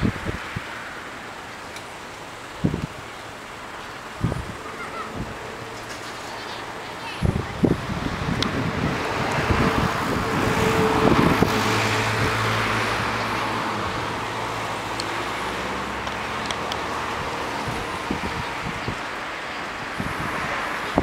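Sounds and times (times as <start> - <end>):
distant engine passing: 3.2 - 21.0.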